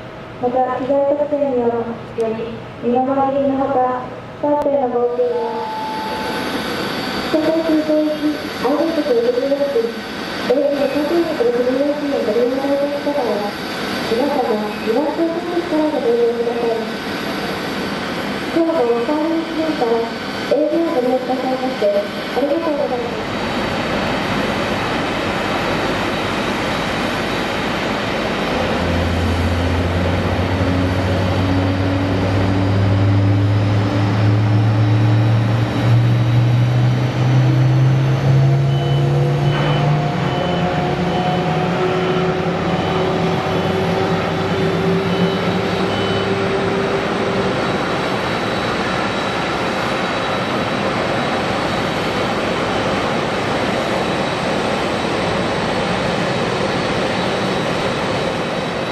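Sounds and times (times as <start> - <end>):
electric train motors whining: 5.3 - 56.2
train running rumble: 5.6 - 58.9.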